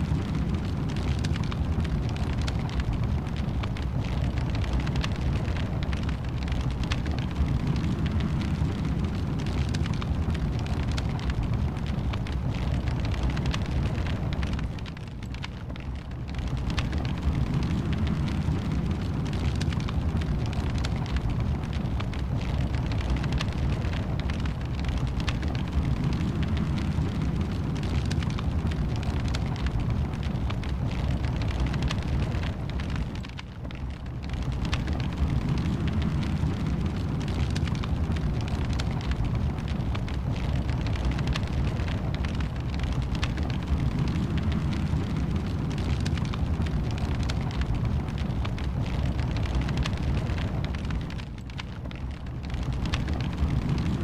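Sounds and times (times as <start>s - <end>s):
steady low rumble: 0.0s - 54.0s
wood fire crackling and popping: 0.0s - 54.0s.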